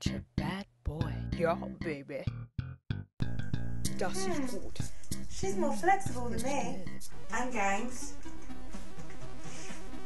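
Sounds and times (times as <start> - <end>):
background music of short notes: 1.2 - 10.0.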